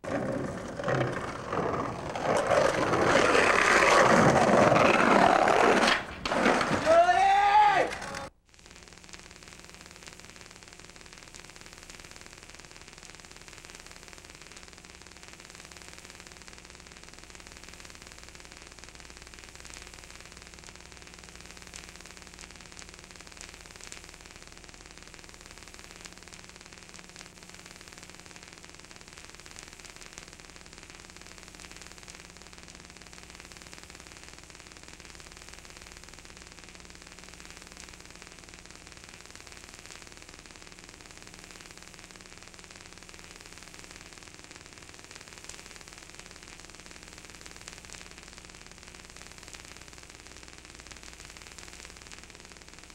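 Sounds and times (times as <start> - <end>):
analog tape hiss: 0.0 - 52.9.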